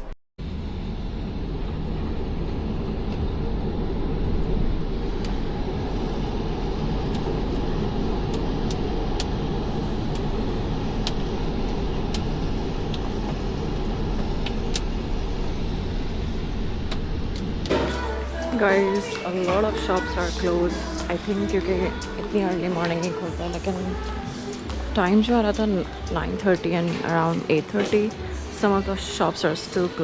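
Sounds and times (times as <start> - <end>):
steady vehicle noise: 0.0 - 29.2.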